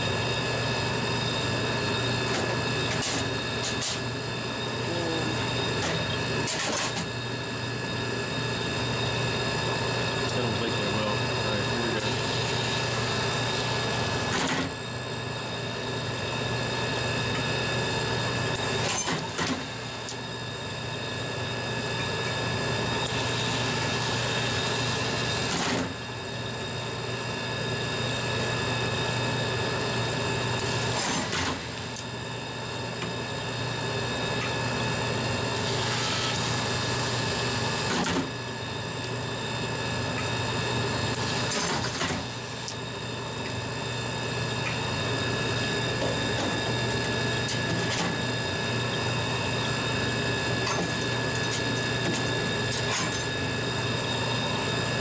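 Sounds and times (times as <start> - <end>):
vending machine motor humming: 0.0 - 55.0.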